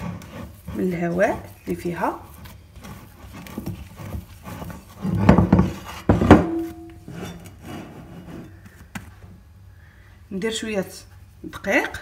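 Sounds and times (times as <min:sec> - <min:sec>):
dough rubbing and handling: 0:00.0 - 0:09.6.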